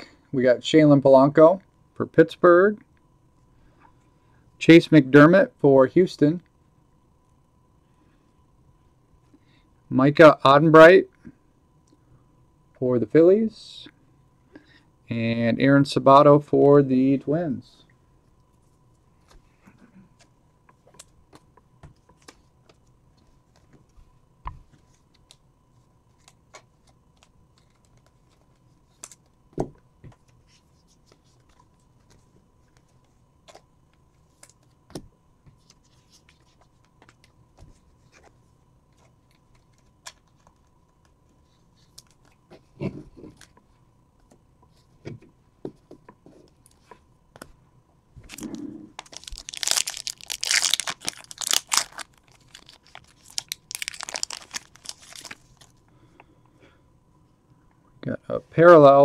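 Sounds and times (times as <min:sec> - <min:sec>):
faint steady whine: 0:00.0 - 0:59.0.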